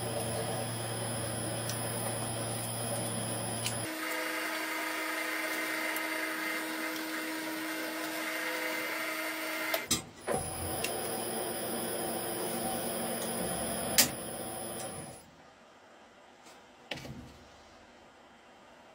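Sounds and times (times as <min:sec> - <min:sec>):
shredder motor whining: 0:00.0 - 0:15.2.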